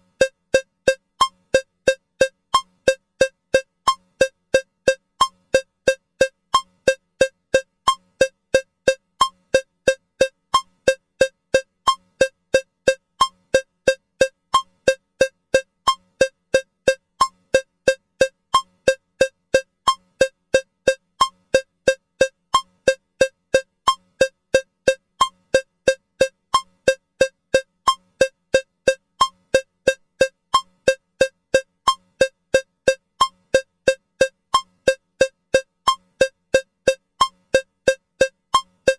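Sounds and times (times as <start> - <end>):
metronome cowbell ticking: 0.0 - 38.9.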